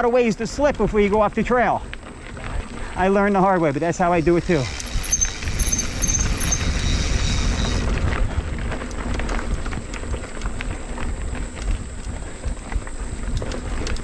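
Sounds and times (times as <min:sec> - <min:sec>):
bike rattling over ground: 0:00.0 - 0:14.0
wind buffeting microphone: 0:00.0 - 0:14.0.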